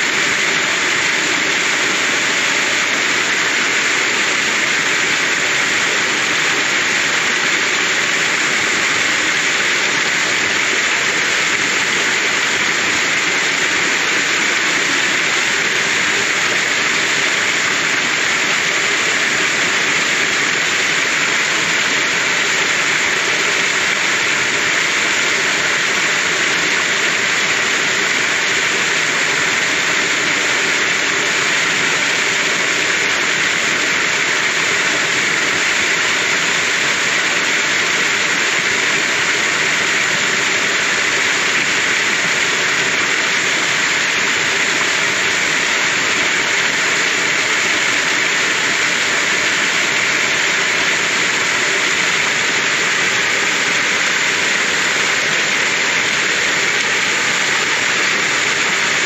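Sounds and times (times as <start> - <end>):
waterfall splashing onto boulders: 0.0 - 59.0.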